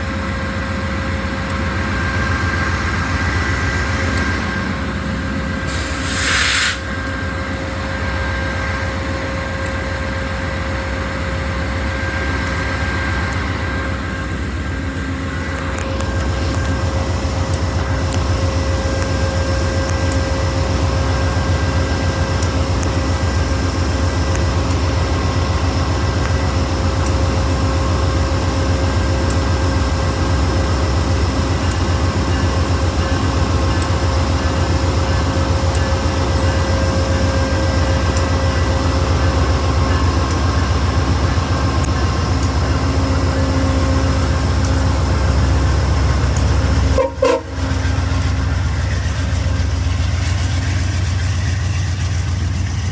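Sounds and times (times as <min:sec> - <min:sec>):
diesel locomotive rumbling and whining: 0:00.0 - 0:52.9.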